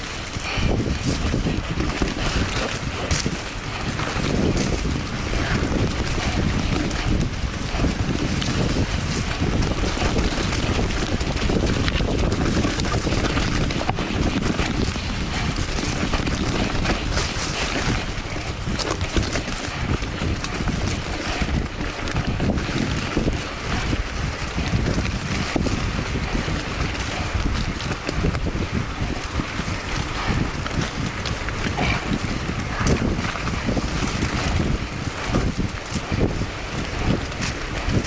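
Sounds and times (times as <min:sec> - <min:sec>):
bike knocks and rattles: 0:00.0 - 0:38.0
wind buffeting microphone: 0:00.0 - 0:38.0.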